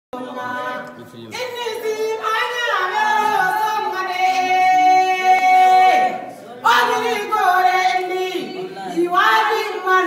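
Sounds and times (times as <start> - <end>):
woman singing: 1.4 - 10.0.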